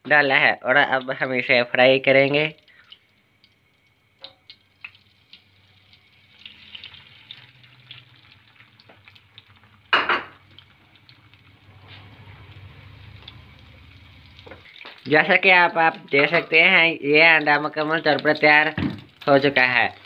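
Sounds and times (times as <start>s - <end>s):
egg sizzling in a frying pan: 1.1s - 20.0s.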